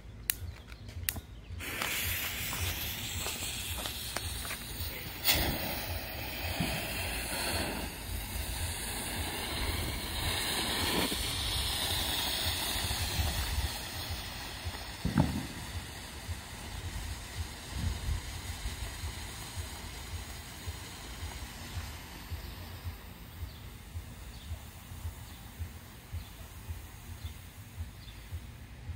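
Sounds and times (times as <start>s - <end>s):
smoke devices hissing: 0.0s - 28.9s
wind buffeting microphone: 1.6s - 26.3s.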